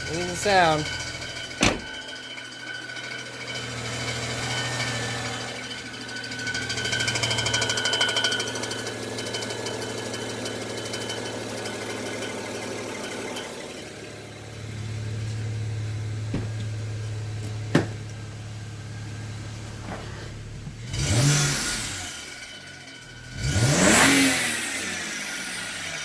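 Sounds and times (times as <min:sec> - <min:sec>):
metallic transmission rattle: 0:00.0 - 0:24.0
car engine idling: 0:00.0 - 0:26.0.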